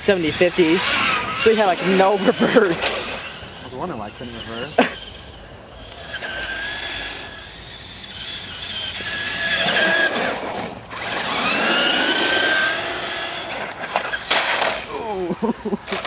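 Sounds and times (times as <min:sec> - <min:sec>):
toy truck electric motors whining: 0:00.0 - 0:16.0.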